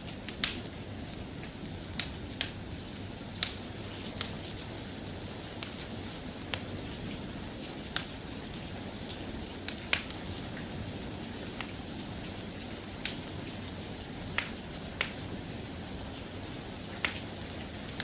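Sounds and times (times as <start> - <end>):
log fire crackling: 0.0 - 18.0
soft rain hiss: 0.0 - 18.0.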